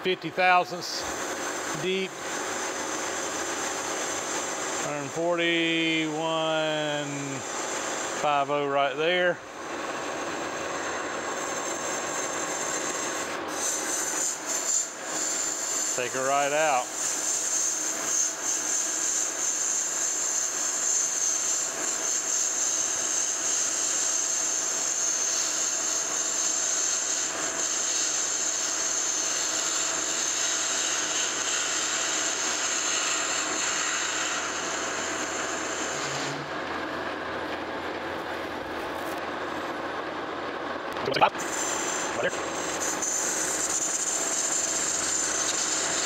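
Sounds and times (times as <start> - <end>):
metal lathe machining hiss and whine: 0.0 - 38.0, 41.2 - 46.0.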